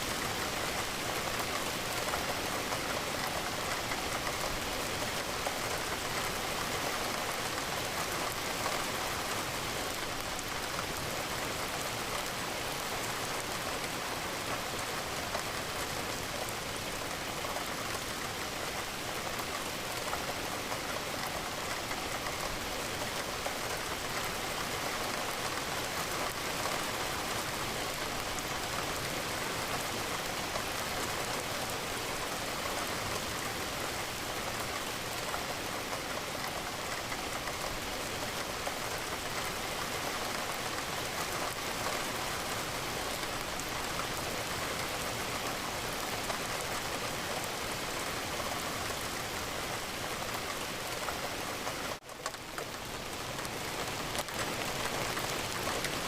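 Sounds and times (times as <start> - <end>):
rain hitting a window: 0.0 - 56.0.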